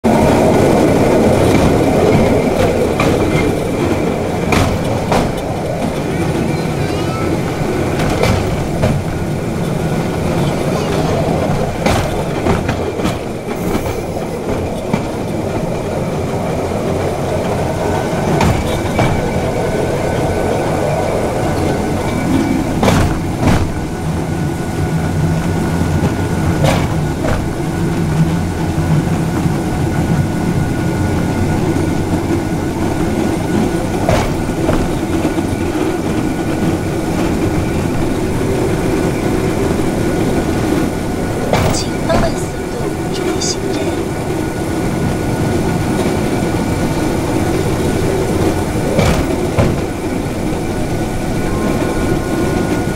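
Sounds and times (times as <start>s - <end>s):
steel wheels rumbling on track: 0.0s - 52.9s
wheels clacking over rail joints: 0.0s - 52.9s.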